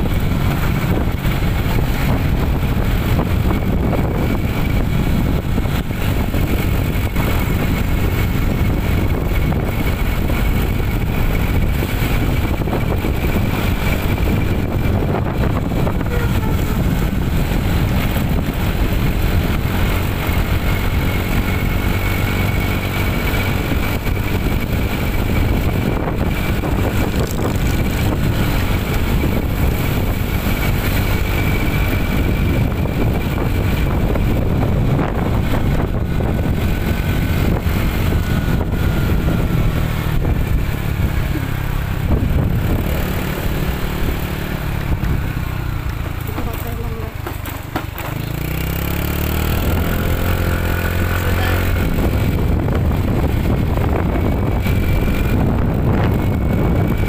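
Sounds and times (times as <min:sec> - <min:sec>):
motorcycle engine drone: 0:00.0 - 0:57.0
wind and road rush: 0:00.0 - 0:57.0.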